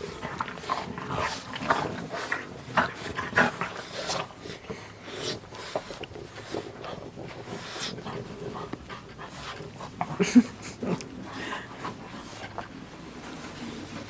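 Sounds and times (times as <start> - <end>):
dogs making breathy noises: 0.0 - 14.0.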